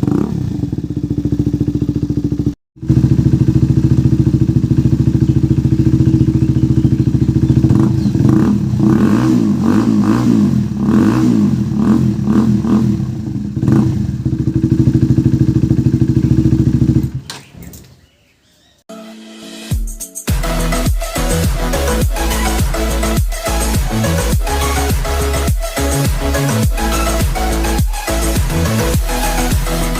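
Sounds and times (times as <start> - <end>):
motorcycle idling and revving: 0.0 - 17.9, 20.3 - 29.9.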